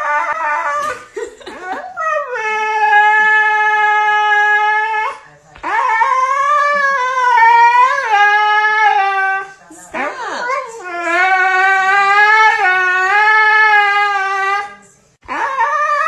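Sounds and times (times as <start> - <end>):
dog howling: 2.0 - 16.0.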